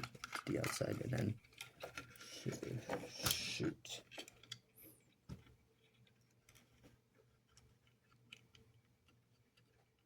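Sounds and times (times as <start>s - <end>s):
small plastic parts clicking: 0.0s - 2.3s, 3.2s - 4.7s, 5.4s - 10.0s.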